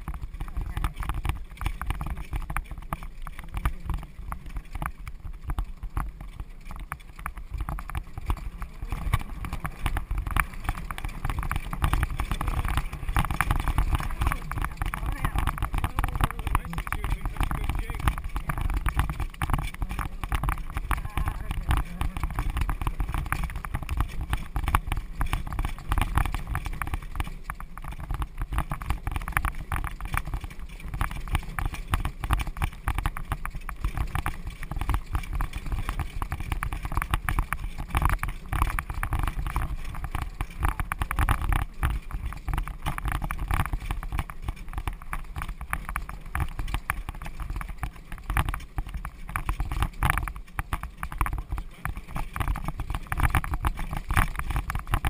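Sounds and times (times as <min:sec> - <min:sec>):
carriage wheels and harness rattling: 0:00.0 - 0:55.0
hoofbeats on dirt: 0:00.0 - 0:55.0
steady low rumble: 0:00.0 - 0:55.0.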